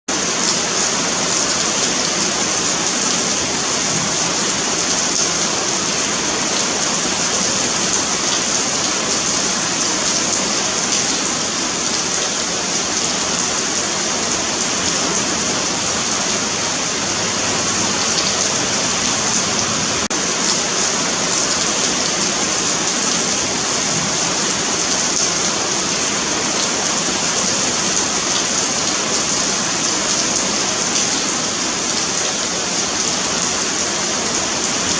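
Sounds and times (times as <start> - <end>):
rain falling on pavement: 0.1 - 34.9.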